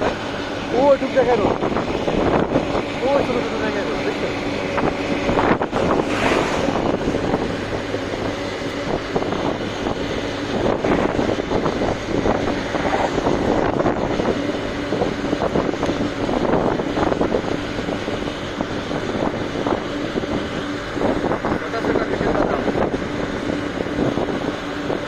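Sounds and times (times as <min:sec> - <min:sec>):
continuous rushing noise: 0:00.0 - 0:25.0
truck engine drone: 0:00.0 - 0:25.0.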